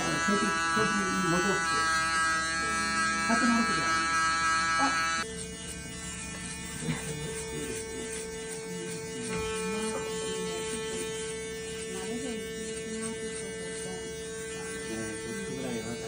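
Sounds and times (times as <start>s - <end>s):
electric hair clippers buzzing: 0.0s - 16.0s.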